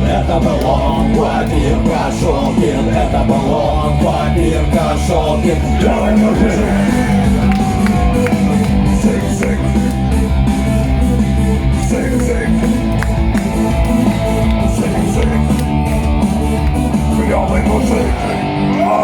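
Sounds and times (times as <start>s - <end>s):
cymbals keeping a beat: 0.0s - 18.2s
electric guitar: 0.0s - 19.0s
rock band playing: 0.0s - 19.0s.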